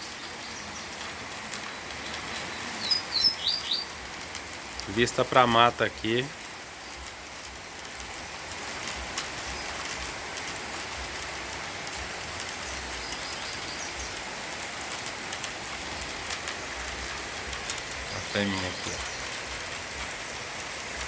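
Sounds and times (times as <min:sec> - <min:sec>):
heavy rain hissing: 0:00.0 - 0:21.0
raindrops tapping surfaces: 0:00.0 - 0:21.0.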